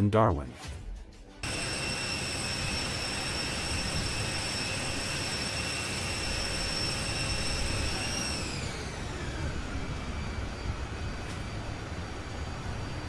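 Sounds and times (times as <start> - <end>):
jet turbine whine: 1.4 - 13.0.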